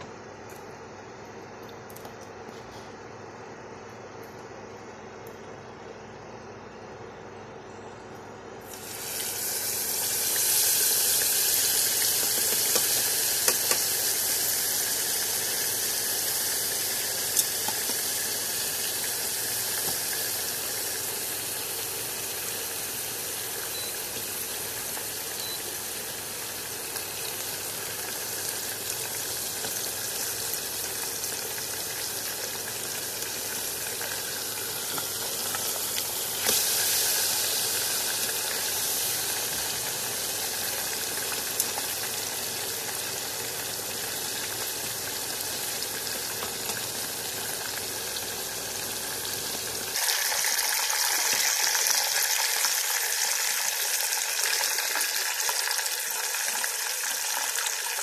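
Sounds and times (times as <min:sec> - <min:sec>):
chicken sizzling in hot oil: 0:08.6 - 0:58.0.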